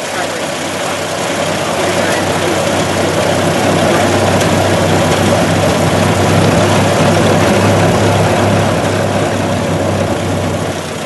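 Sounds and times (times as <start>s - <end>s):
car engine droning: 0.0s - 11.0s
wind and road noise: 0.6s - 11.0s.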